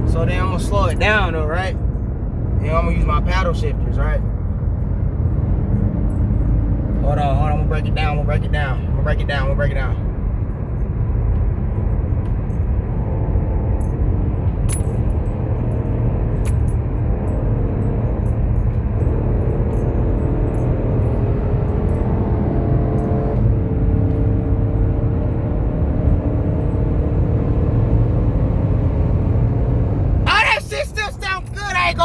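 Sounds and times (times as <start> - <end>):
car engine accelerating through gears: 0.0 - 30.3.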